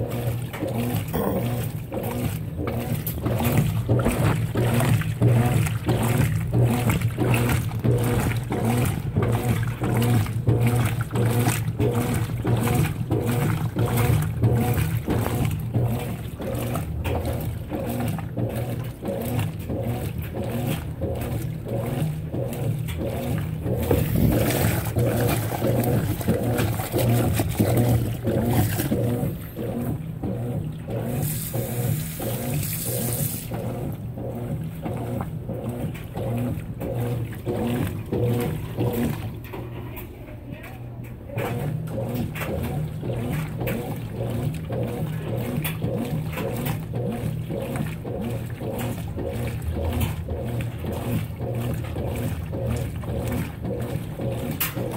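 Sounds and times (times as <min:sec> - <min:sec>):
washing machine motor hum: 0:00.0 - 0:54.9
water churning and sloshing: 0:00.0 - 0:54.9.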